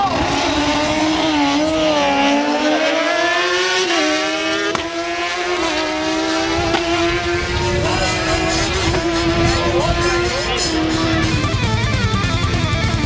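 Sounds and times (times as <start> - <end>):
motorcycles revving high: 0.0 - 13.0.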